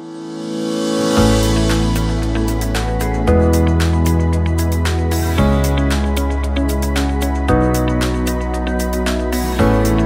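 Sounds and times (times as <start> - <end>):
music with steady beat and bass: 1.2 - 10.0.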